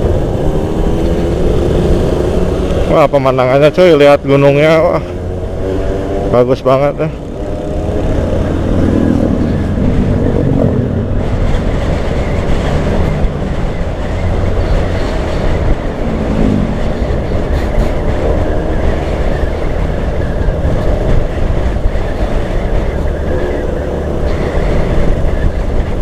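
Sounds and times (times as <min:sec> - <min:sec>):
low road rumble: 0:00.0 - 0:26.0
wind rush on microphone: 0:00.0 - 0:26.0.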